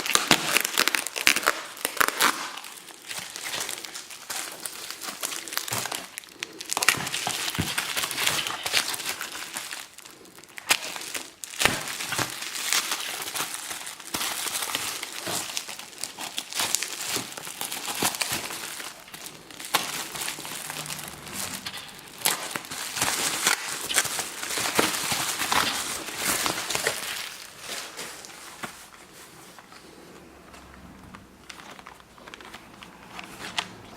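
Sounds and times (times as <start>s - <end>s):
packing material crinkling: 0.0s - 33.9s.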